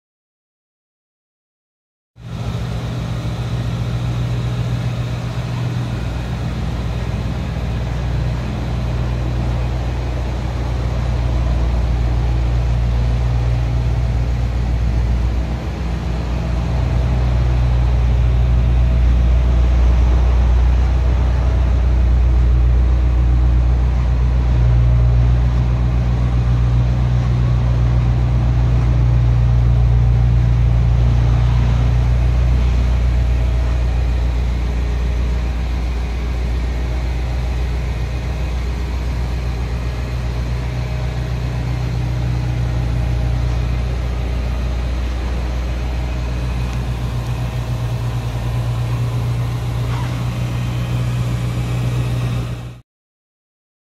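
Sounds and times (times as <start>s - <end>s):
car engine idling: 2.2s - 52.8s.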